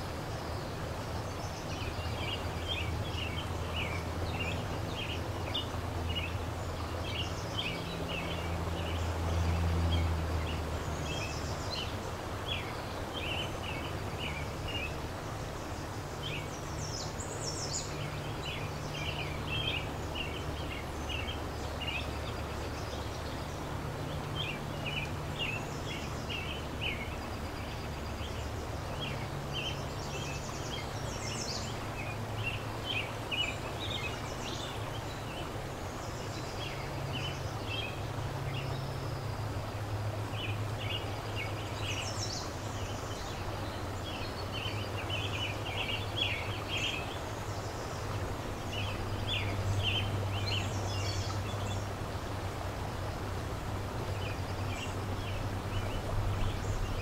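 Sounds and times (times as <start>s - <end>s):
low steady hum: 0.0s - 57.0s
river rushing: 0.0s - 57.0s
songbirds chirping: 0.0s - 57.0s.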